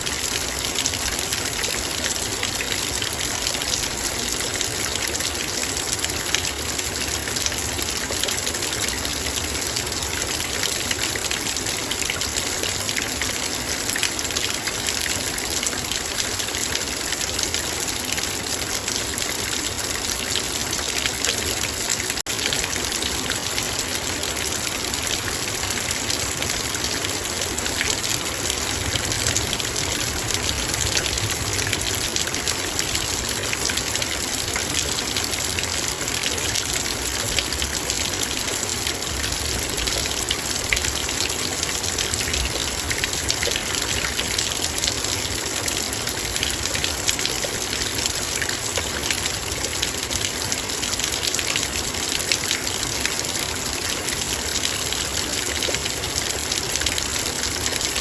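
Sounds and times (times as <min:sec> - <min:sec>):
heavy rain on a metal bowl: 0:00.0 - 0:58.0.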